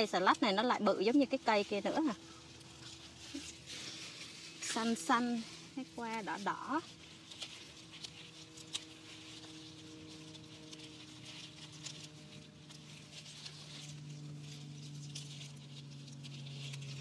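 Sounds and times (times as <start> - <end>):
lettuce leaves snapping and rustling: 0.0 - 17.0.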